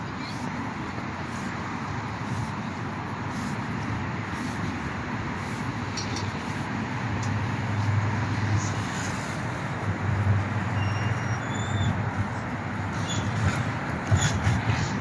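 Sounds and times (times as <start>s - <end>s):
heavy vehicle engine rumble: 0.0s - 15.0s
road traffic noise: 0.0s - 15.0s.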